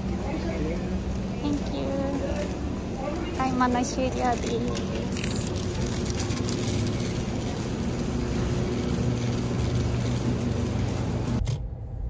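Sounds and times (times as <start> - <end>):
shopping cart wheels rolling on concrete: 0.0 - 11.4.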